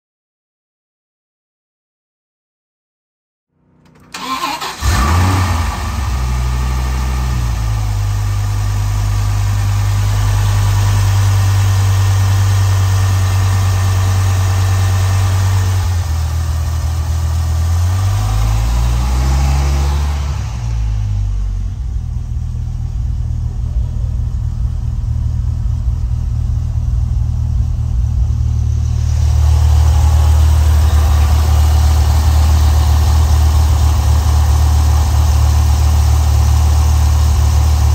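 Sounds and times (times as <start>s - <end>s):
car engine starting and idling: 3.8s - 37.9s.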